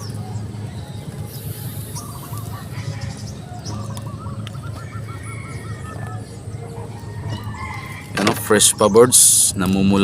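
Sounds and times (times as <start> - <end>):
bird calling: 0.0 - 9.8
steady low hum: 0.0 - 10.0.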